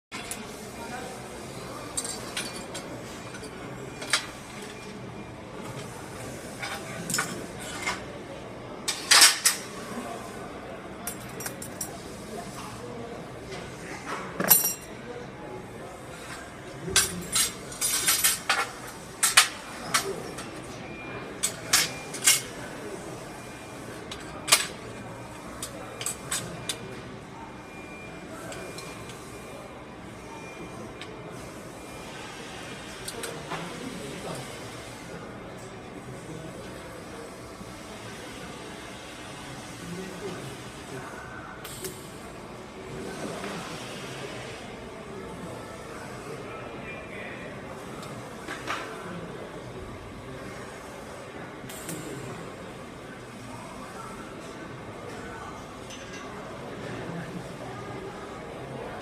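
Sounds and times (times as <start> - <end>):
background murmur: 0.1 - 59.0.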